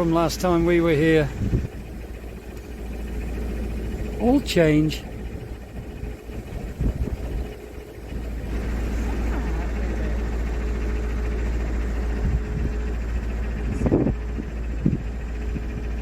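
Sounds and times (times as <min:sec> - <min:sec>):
diesel boat engine rumbling: 0:00.0 - 0:16.0.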